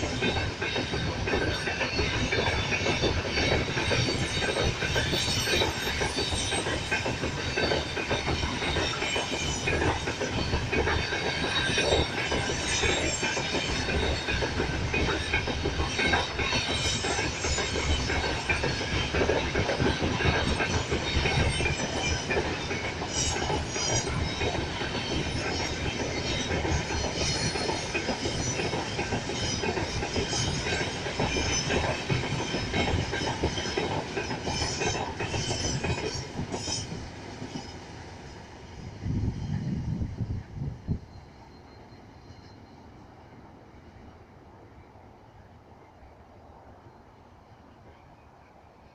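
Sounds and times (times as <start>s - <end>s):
train wheels rumbling and clattering: 0.0s - 48.9s.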